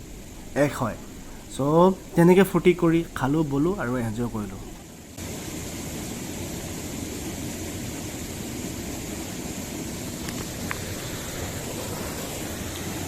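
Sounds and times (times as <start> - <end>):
fast-flowing water roar: 0.0 - 13.0.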